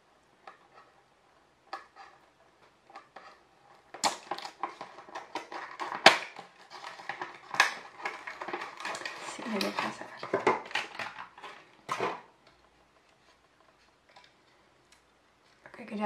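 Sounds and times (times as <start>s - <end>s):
box handling crackles and clicks: 1.7s - 15.7s.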